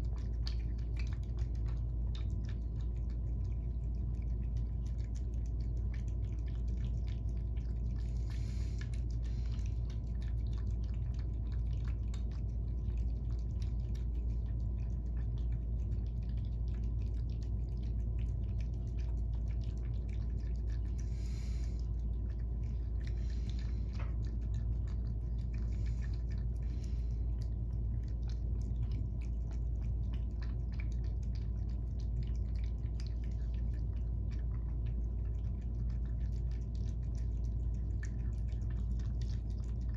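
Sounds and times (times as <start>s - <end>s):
cat lapping: 0.0s - 39.9s
cats chewing wet food: 0.0s - 39.9s
low hum: 0.0s - 39.9s.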